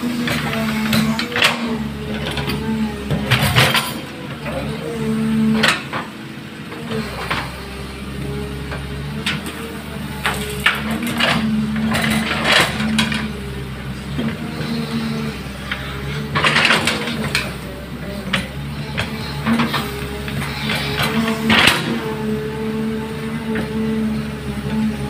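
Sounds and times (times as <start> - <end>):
diesel engine under load: 0.0 - 25.0
hydraulic whine: 0.0 - 25.0.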